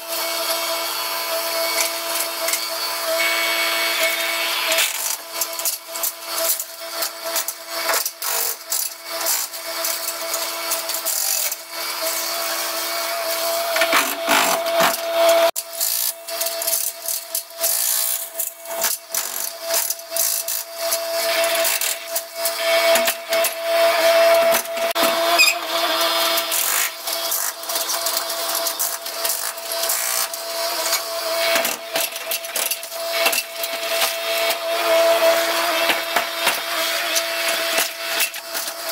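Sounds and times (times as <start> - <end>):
hydraulic breaker hammering brick: 1.5 - 15.7, 16.5 - 38.9.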